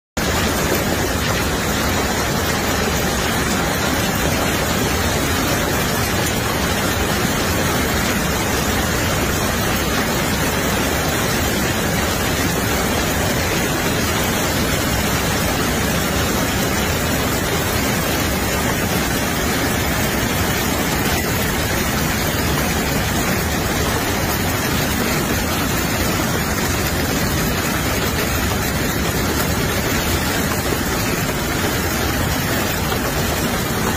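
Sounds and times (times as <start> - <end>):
hail falling: 0.2 - 33.9
heavy rain: 0.2 - 33.9
strong wind: 0.2 - 33.9.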